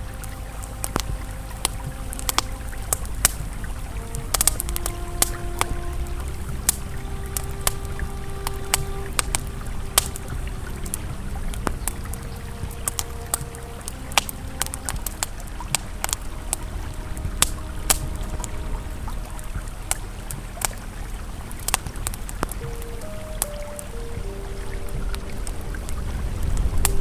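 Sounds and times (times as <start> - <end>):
campfire crackling and popping: 0.0 - 27.0
river flowing: 0.0 - 27.0
soft ambient music tones: 0.0 - 27.0.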